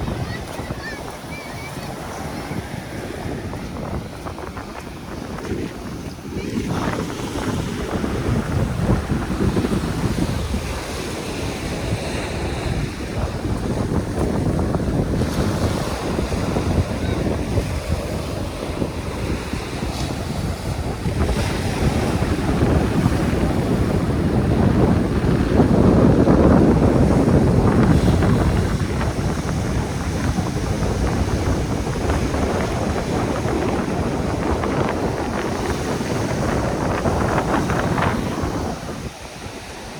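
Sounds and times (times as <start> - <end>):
surf: 0.0 - 39.9
wind buffeting microphone: 0.0 - 39.9.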